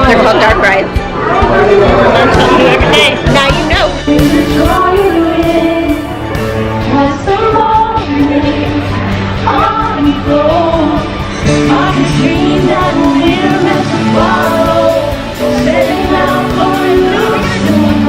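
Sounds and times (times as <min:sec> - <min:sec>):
person singing: 0:03.4 - 0:18.0.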